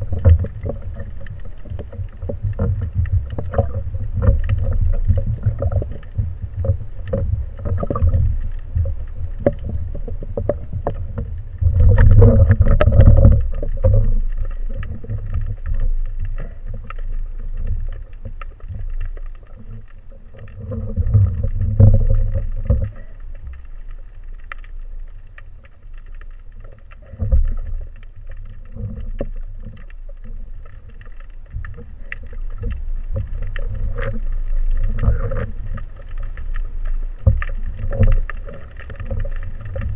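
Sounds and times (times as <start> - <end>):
faint clicks: 0.0 - 39.9
underwater rumble of moving water: 0.0 - 39.9
water surges: 0.0 - 39.9.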